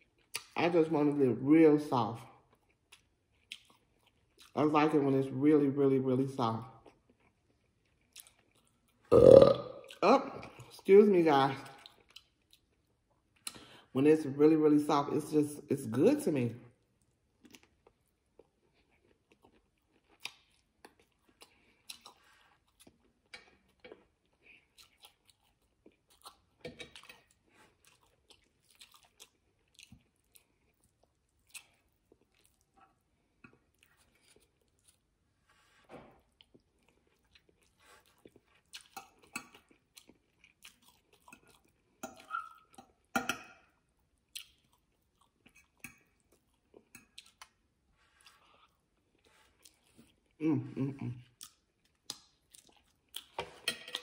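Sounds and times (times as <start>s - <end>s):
chewing and eating: 0.0s - 0.6s, 1.8s - 5.0s, 6.2s - 10.8s, 11.4s - 13.9s, 16.7s - 54.0s.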